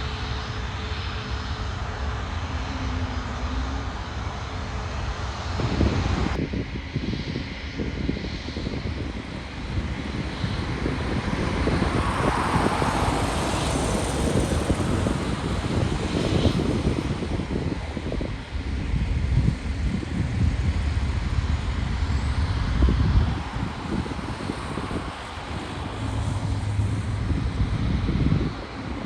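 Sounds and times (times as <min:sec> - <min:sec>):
jet engine noise: 0:00.0 - 0:29.0
wind rumble on microphone: 0:00.0 - 0:29.0.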